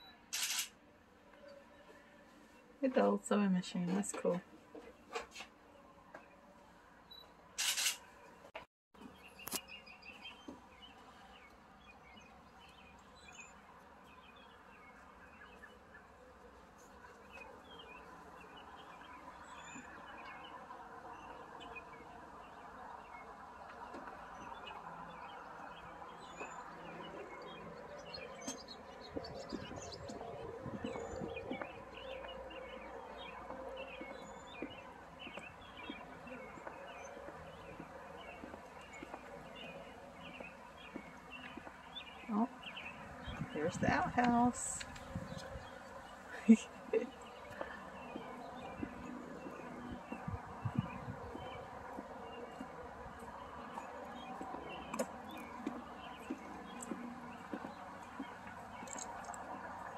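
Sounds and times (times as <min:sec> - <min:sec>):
outdoor background noise: 0:00.0 - 0:59.9
small birds chirping: 0:07.1 - 0:59.9.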